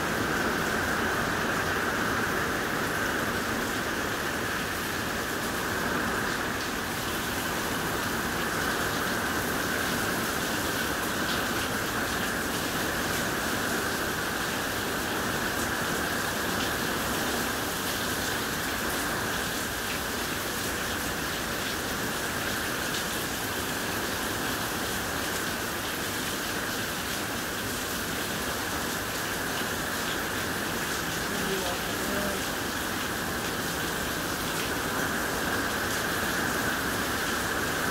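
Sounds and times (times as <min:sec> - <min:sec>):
steady rain pouring: 0:00.0 - 0:37.9.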